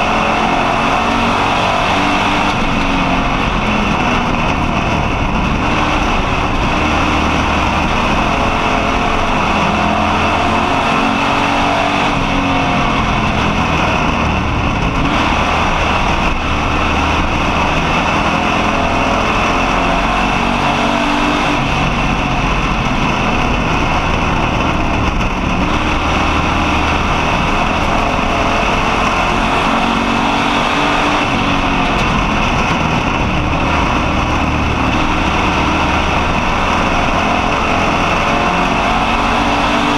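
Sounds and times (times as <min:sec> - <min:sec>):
race car engine revving: 0:00.0 - 0:39.9
road and wind noise: 0:00.0 - 0:39.9.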